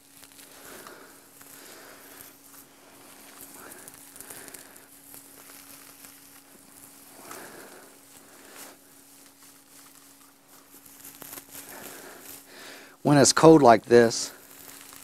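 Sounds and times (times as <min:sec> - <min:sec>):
faint steady hum: 0:00.0 - 0:15.0
hay rustling: 0:00.0 - 0:15.0.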